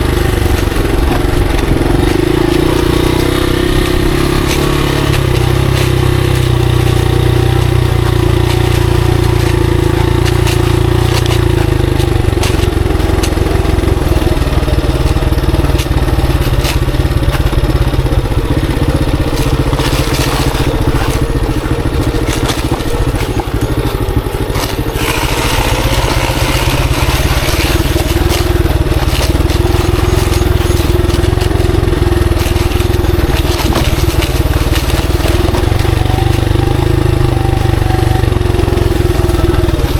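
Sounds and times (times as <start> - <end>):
clicks knocks and crunching: 0.0 - 39.9
motorcycle engine running: 0.0 - 39.9.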